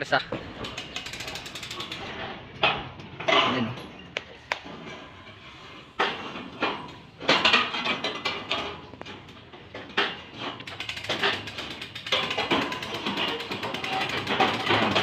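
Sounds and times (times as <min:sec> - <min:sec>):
metal pipes clanking: 0:00.0 - 0:15.0.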